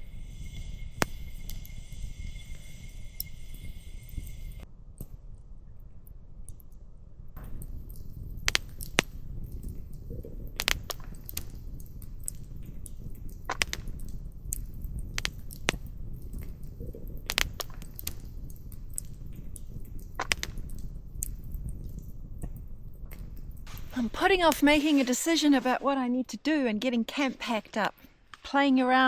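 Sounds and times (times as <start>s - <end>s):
sharp cracks and ticks: 0.0s - 5.2s, 7.4s - 29.0s
steady low rumble: 0.0s - 28.5s.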